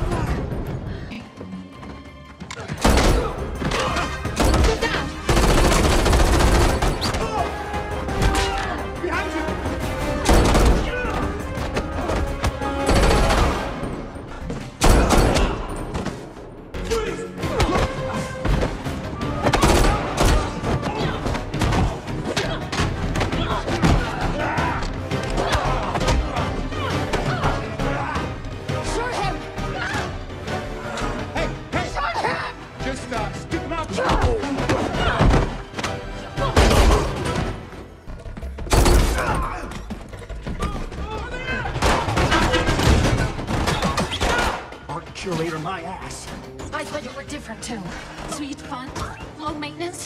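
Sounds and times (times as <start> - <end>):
dramatic film score: 0.0 - 50.0.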